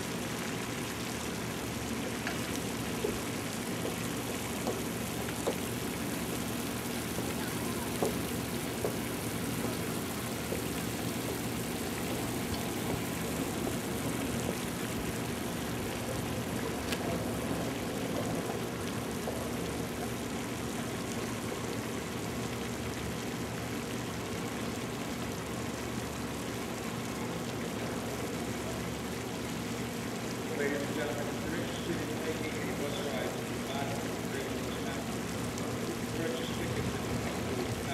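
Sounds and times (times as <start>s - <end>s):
rushing outdoor noise: 0.0s - 23.8s, 26.8s - 37.9s.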